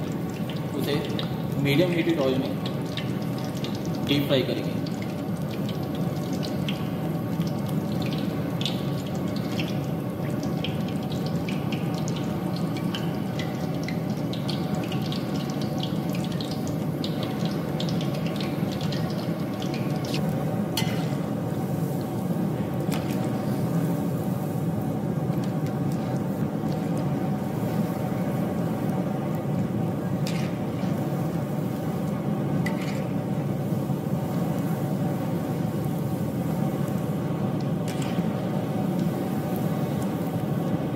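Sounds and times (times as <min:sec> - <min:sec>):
food deep-frying in oil: 0:00.0 - 0:40.9.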